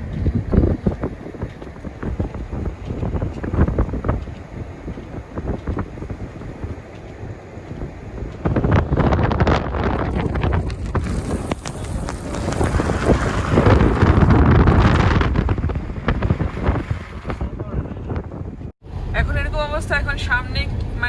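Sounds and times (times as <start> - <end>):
vehicle driving rumble: 0.0 - 21.0
wind buffeting microphone: 0.0 - 21.0.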